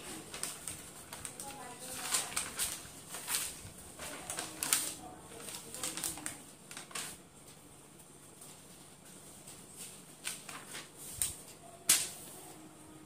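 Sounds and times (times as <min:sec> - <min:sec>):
paper rustling: 0:00.0 - 0:07.2, 0:08.4 - 0:12.6.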